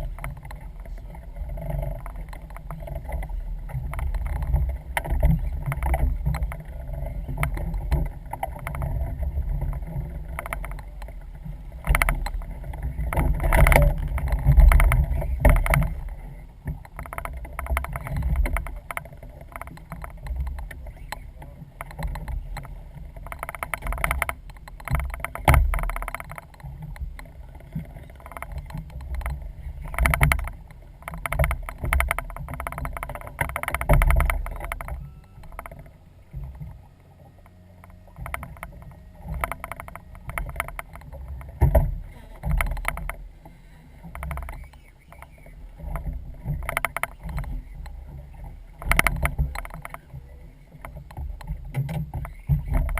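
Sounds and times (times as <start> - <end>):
boat low rumble: 0.0 - 52.9.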